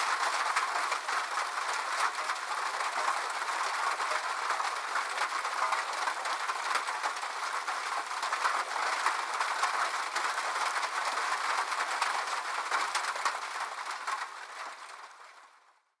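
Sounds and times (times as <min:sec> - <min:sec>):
rain falling on a roof: 0:00.0 - 0:16.0.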